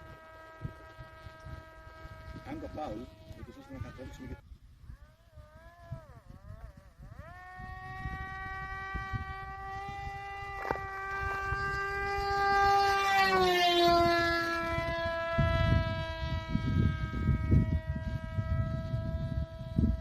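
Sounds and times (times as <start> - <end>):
electric propeller motor whining: 0.0 - 20.0
low rumbling wind noise: 0.0 - 20.0.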